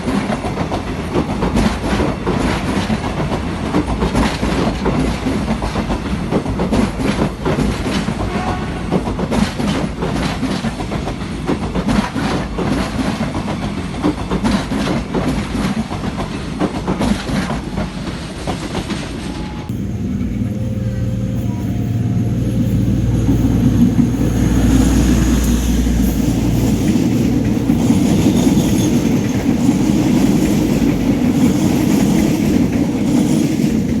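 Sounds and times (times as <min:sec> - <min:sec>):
train wheels clattering over rail joints: 0:00.0 - 0:19.2, 0:22.8 - 0:34.0
train low rumble: 0:00.0 - 0:34.0.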